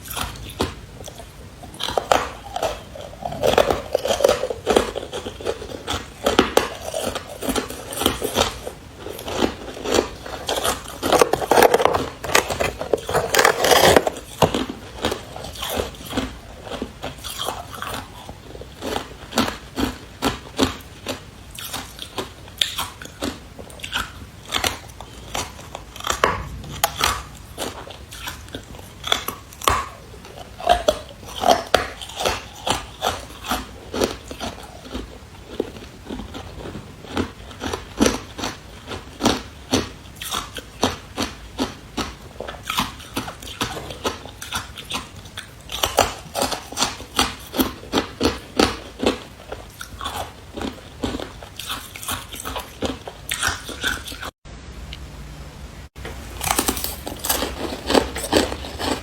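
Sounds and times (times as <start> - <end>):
ice being chewed: 0.0 - 54.3, 56.0 - 59.0.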